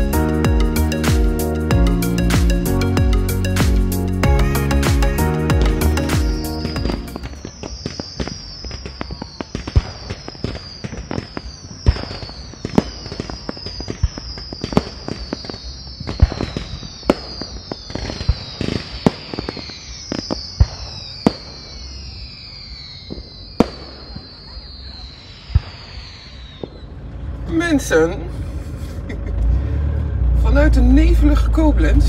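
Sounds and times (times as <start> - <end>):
fireworks whistles falling: 0.0 - 27.0
fireworks bangs: 0.0 - 27.3.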